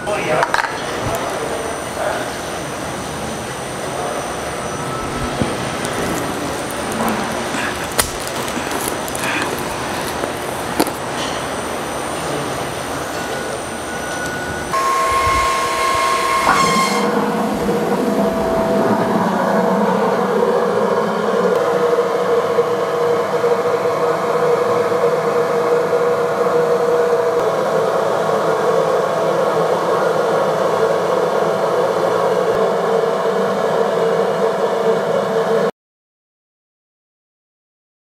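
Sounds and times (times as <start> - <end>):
motor whirring with hum tones: 0.3 - 35.7.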